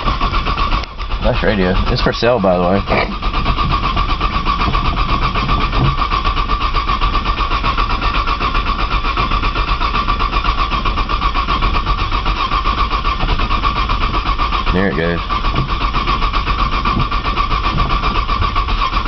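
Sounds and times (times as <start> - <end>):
starter motor cranking: 0.0 - 19.0.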